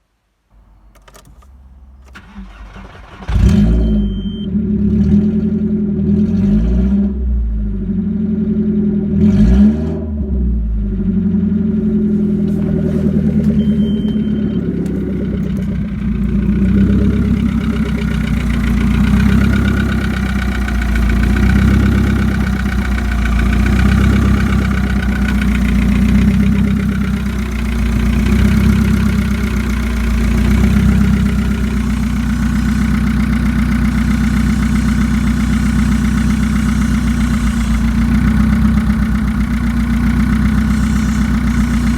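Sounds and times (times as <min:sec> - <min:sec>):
car engine starting and idling: 0:00.5 - 0:41.9
engine revving: 0:02.2 - 0:41.9.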